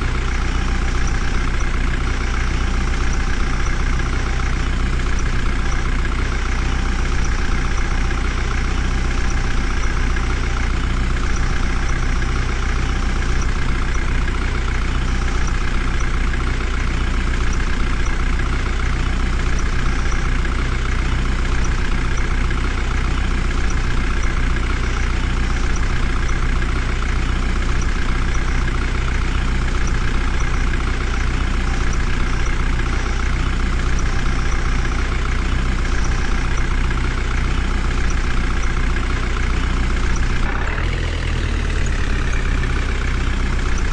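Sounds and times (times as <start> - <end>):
diesel engine running steadily: 0.0 - 43.9.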